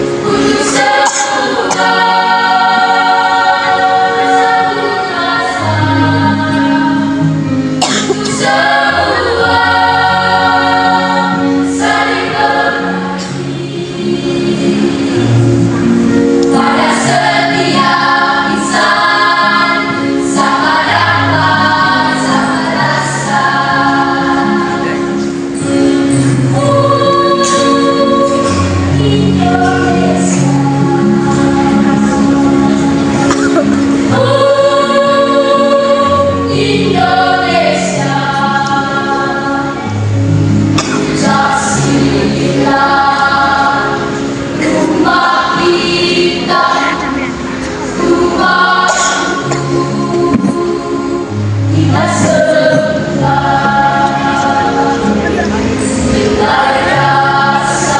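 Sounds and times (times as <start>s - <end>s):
choir singing in harmony: 0.0s - 57.9s.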